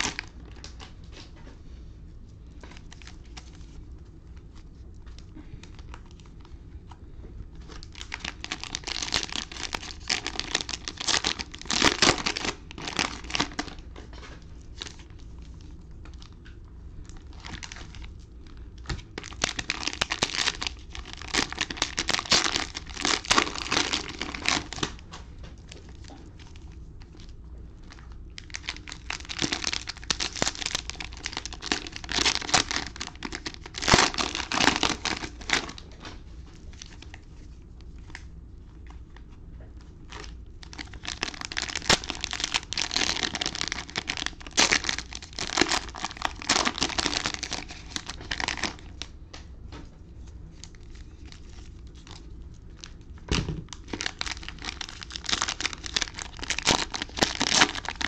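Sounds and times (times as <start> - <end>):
cellophane wrappers tearing and crinkling: 0.0 - 0.9, 2.6 - 3.8, 7.6 - 16.4, 17.0 - 38.2, 40.0 - 49.1, 50.5 - 58.0.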